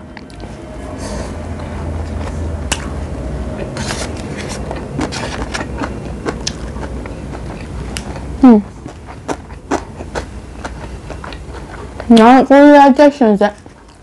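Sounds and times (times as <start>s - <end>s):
steady low hum: 0.0s - 14.0s
person chewing food: 0.1s - 12.3s, 13.5s - 14.0s.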